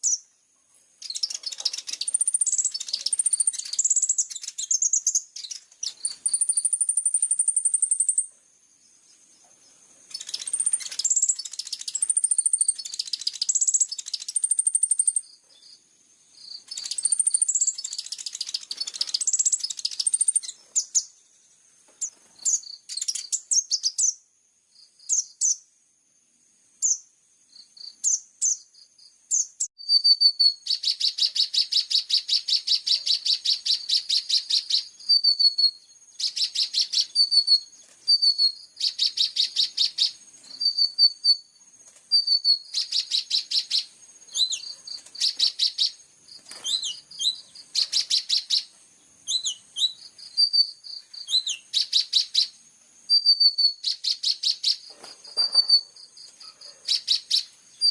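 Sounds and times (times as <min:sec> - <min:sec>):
songbird chirps and trills: 0:00.0 - 0:57.9.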